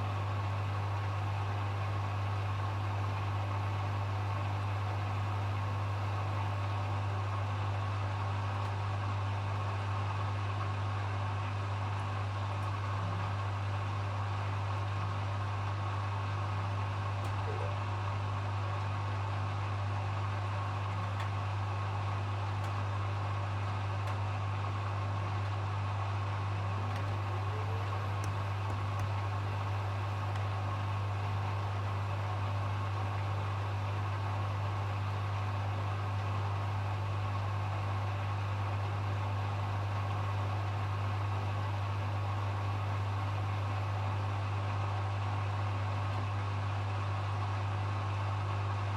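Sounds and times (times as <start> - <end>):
washing machine spinning: 0.0 - 48.9.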